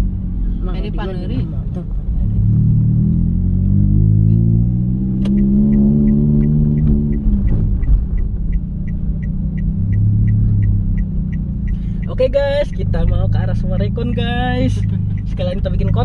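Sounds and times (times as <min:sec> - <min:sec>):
car engine accelerating: 0:00.0 - 0:16.0
turn signal ticking: 0:00.1 - 0:16.0.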